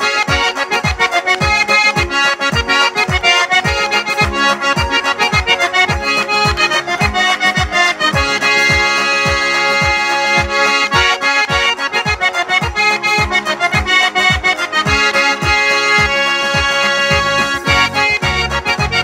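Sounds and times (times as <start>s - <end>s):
button accordion playing a tune: 0.0s - 19.0s.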